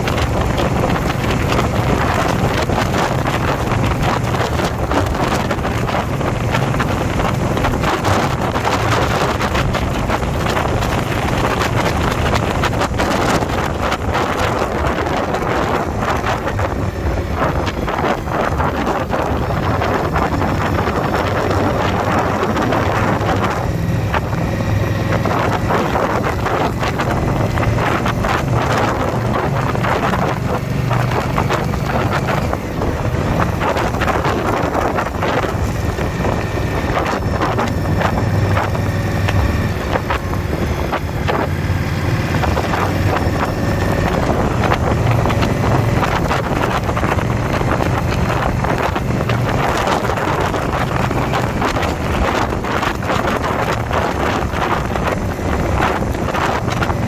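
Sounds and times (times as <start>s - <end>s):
motorcycle engine droning: 0.0s - 57.0s
wind noise on microphone: 0.0s - 57.0s.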